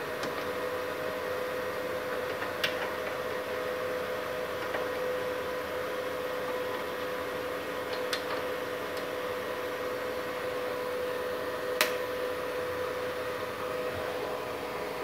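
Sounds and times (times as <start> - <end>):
cooling fan whine: 0.0 - 15.0.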